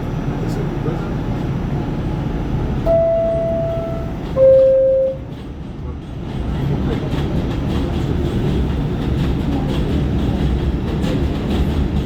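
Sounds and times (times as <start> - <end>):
subway car rumble: 0.0 - 12.0.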